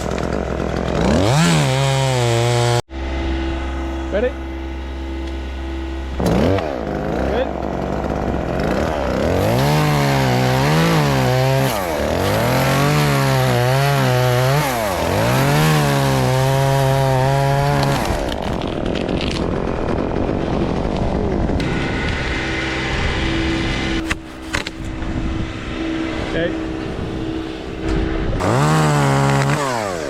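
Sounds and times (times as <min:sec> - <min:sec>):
chainsaw cutting wood: 0:00.0 - 0:03.2, 0:05.0 - 0:26.5, 0:27.4 - 0:30.0.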